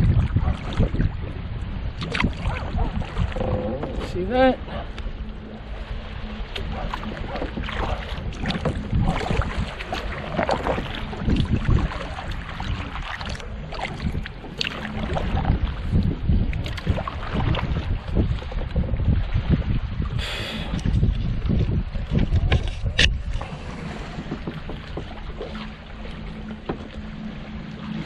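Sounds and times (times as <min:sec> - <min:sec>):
paddle splashing water: 0:00.0 - 0:28.0
wind noise on microphone: 0:00.0 - 0:28.0.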